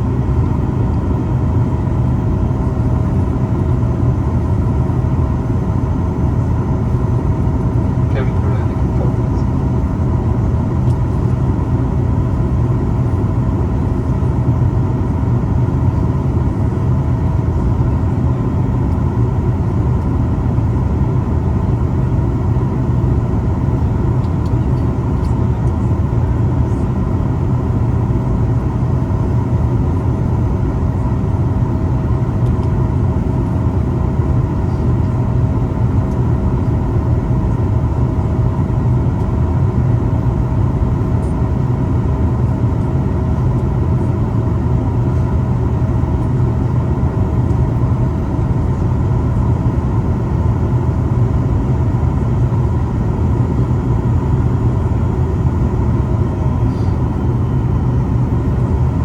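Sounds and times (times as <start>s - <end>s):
airliner cabin rumble: 0.0s - 59.0s
faint steady hums: 0.0s - 59.0s.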